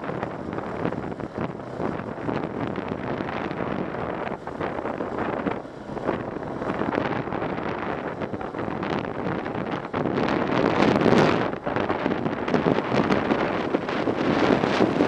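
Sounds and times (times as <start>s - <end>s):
atv engine running: 0.0s - 15.0s
wind buffeting microphone: 0.0s - 15.0s.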